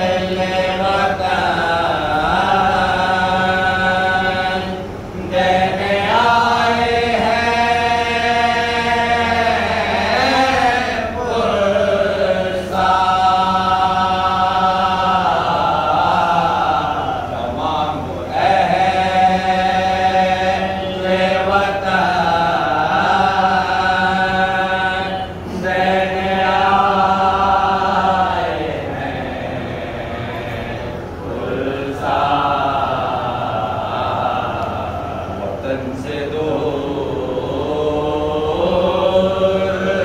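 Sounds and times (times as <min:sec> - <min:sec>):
man chanting: 0:00.0 - 0:40.0
men's voices chanting in chorus: 0:00.0 - 0:40.0.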